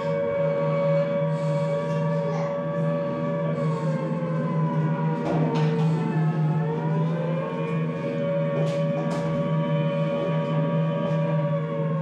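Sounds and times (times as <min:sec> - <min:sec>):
sustained droning music notes: 0:00.0 - 0:12.0.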